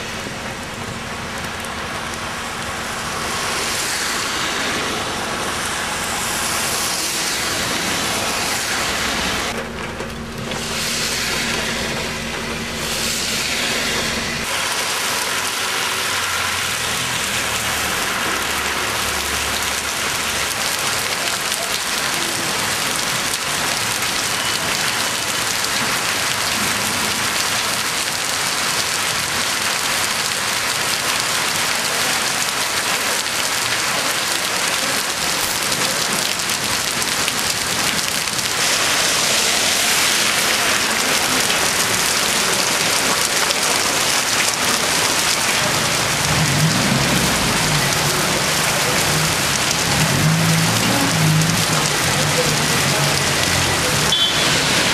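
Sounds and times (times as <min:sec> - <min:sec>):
heavy rain on pavement: 0:00.0 - 0:54.9
vehicle engine rumble: 0:00.0 - 0:54.9.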